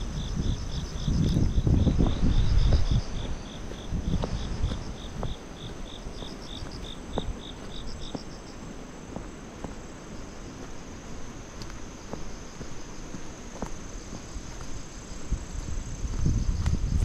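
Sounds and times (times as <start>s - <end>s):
cricket chirping: 0.0s - 17.0s
wind buffeting microphone: 0.0s - 17.0s.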